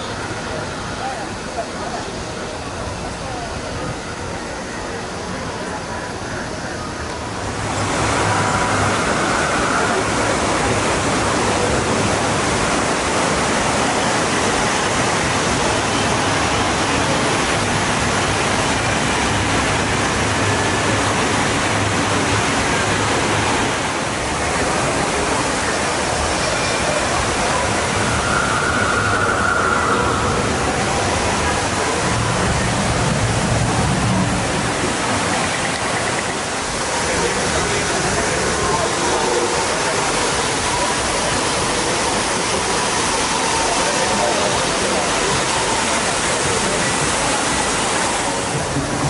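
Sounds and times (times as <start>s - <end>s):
waterfall rushing into pond: 0.0s - 49.0s.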